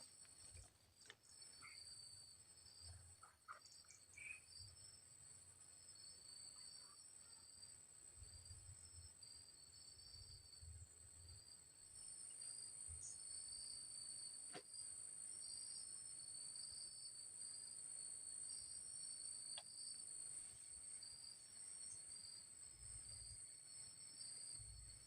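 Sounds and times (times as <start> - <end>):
insects buzzing: 0.0 - 25.0.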